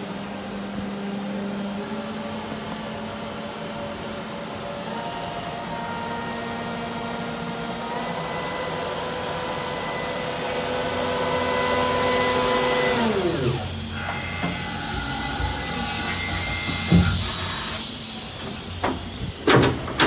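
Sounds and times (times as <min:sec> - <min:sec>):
machine motor whine: 0:00.0 - 0:20.0.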